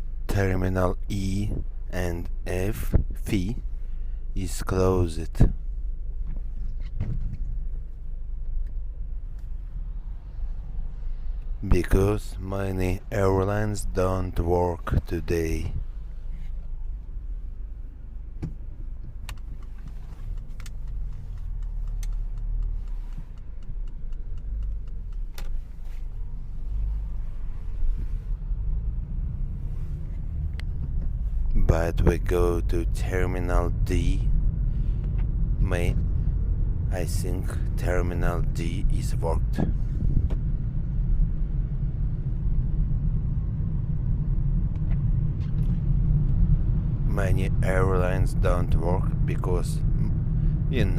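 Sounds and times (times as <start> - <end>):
car cabin road rumble: 0.0 - 50.9.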